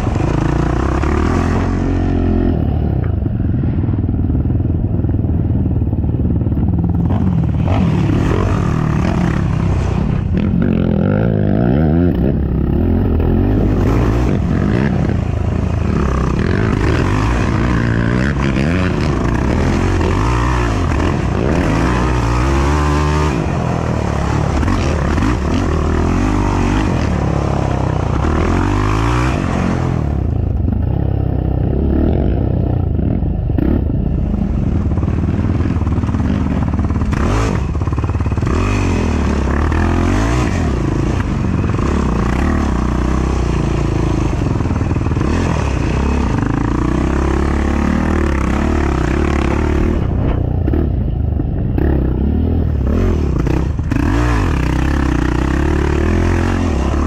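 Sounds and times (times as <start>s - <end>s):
quad engine revving: 0.0s - 3.2s, 6.5s - 57.0s.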